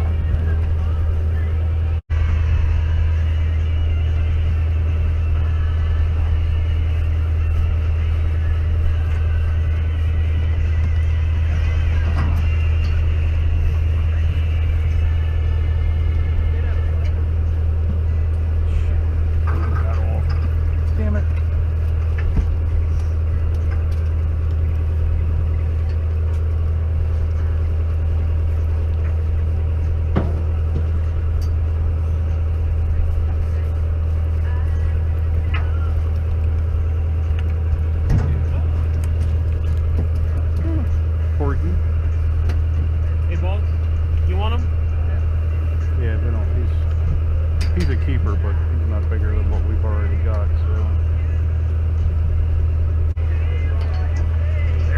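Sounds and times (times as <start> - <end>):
boat engine droning: 0.0 - 54.9.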